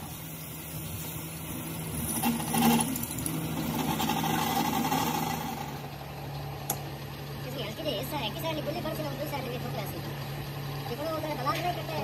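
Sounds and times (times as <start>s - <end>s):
workshop machine humming: 0.0s - 12.0s.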